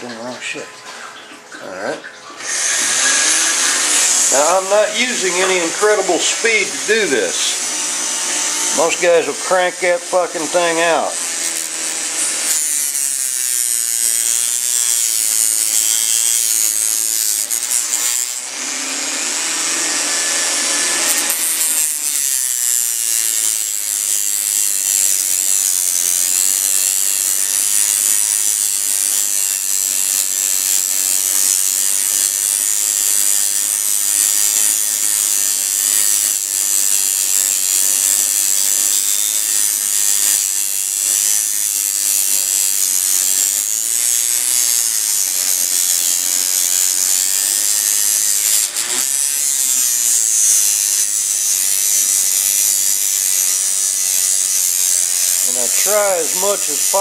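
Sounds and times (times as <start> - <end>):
rotary tool sanding metal: 2.4 - 57.0.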